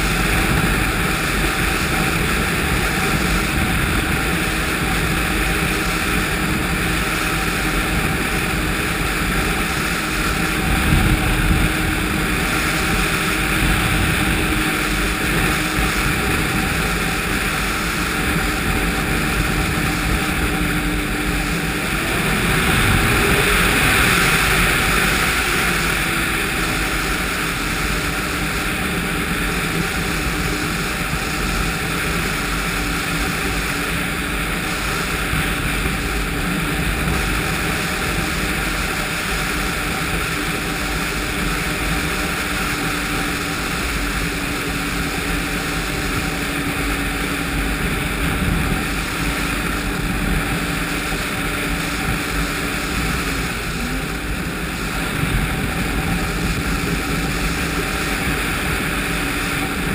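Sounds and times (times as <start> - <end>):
snowmobile engine running: 0.0 - 59.9
wind on microphone: 0.0 - 59.9.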